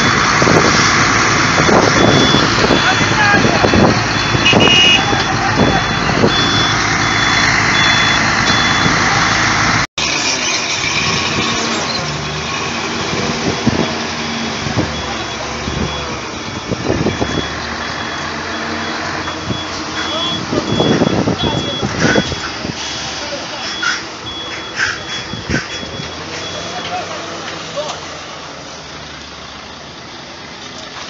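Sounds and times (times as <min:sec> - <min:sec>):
reversing alarm beeping: 0:00.0 - 0:09.8, 0:11.7 - 0:22.5, 0:23.2 - 0:27.4, 0:29.0 - 0:30.4.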